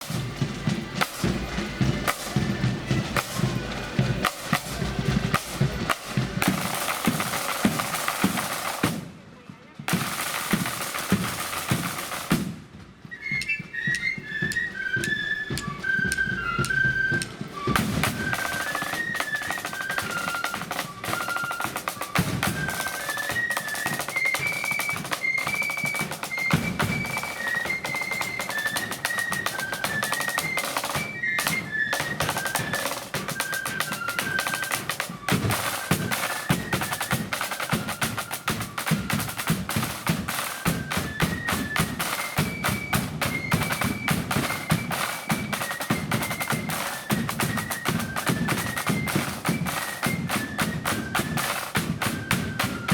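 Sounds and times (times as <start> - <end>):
flutes playing melody: 0.0 - 9.0, 10.0 - 52.9
rapid snare drumming: 0.0 - 9.2, 9.8 - 12.7, 13.9 - 52.9.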